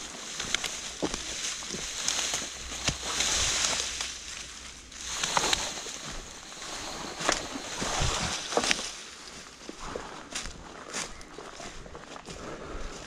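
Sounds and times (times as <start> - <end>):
footsteps through dry leaves: 0.0 - 13.0
twigs cracking underfoot: 0.0 - 13.0.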